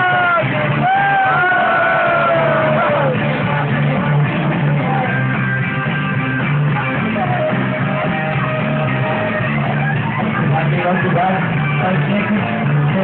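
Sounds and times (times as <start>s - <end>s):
loud rock music with guitar: 0.0s - 13.0s.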